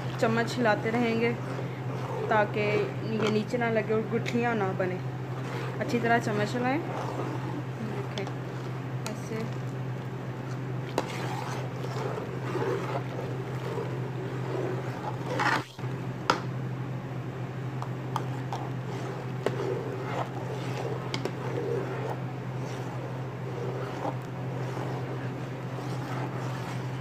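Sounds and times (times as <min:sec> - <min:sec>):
liquid swishing: 0:00.0 - 0:16.0, 0:17.8 - 0:27.0.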